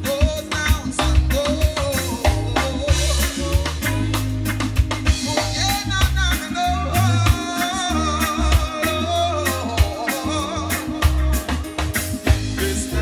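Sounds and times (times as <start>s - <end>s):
person singing: 0.0s - 4.3s, 5.1s - 13.0s
heavy sub-bass: 0.0s - 13.0s
live reggae band: 0.0s - 13.0s.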